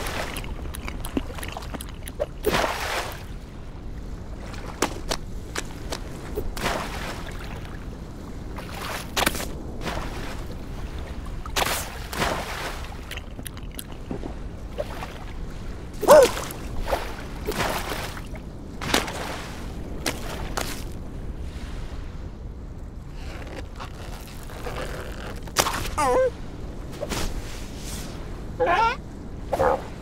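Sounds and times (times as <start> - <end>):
wind and sea ambience: 0.0 - 30.0.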